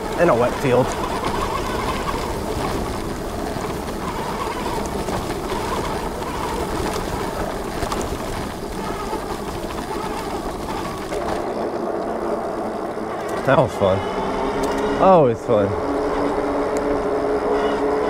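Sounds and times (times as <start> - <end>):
rushing noise of riding: 0.0 - 18.0.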